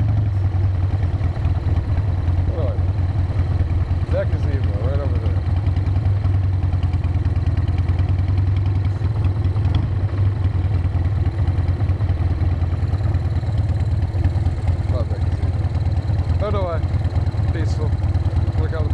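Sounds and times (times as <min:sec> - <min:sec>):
motorcycle engine rumbling: 0:00.0 - 0:18.9.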